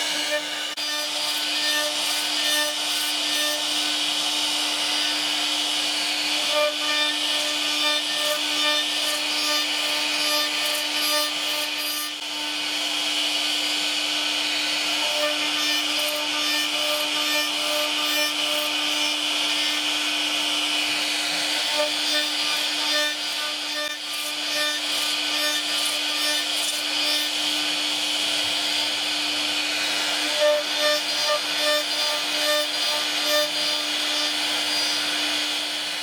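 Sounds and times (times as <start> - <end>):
router cutting wood: 0.0 - 36.0.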